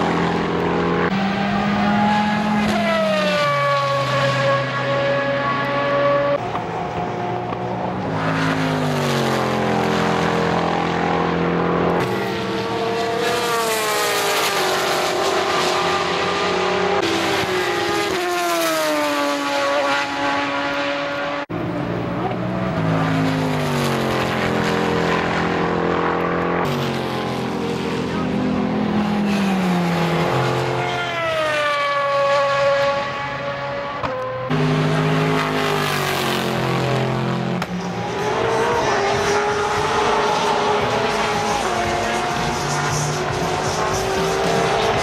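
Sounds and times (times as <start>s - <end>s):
race cars passing: 0.0s - 45.0s.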